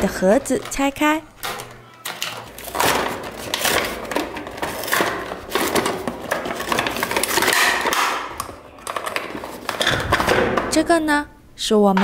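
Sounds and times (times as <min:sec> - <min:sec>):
plastic packaging crackling: 0:00.0 - 0:10.5.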